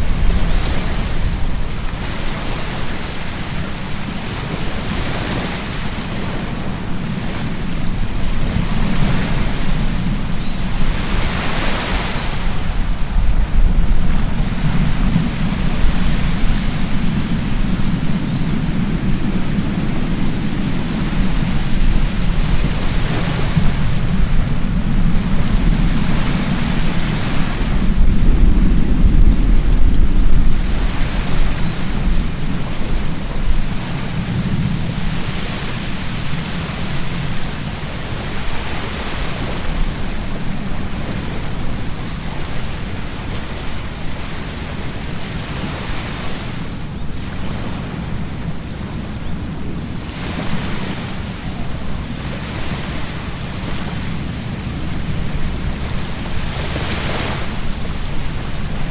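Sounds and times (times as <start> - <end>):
waves breaking on beach: 0.0 - 58.9
wind buffeting microphone: 0.0 - 58.9.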